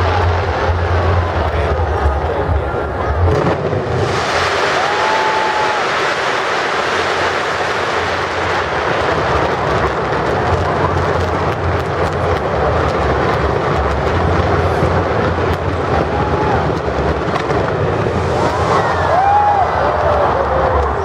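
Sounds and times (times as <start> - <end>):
fireworks blasts rumbling: 0.0 - 21.0
fireworks crackling: 0.0 - 21.0.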